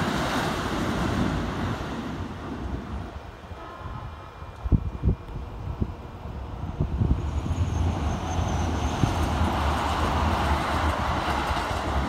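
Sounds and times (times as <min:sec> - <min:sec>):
electric train rumble: 0:00.0 - 0:12.0
wind buffeting microphone: 0:00.0 - 0:12.0.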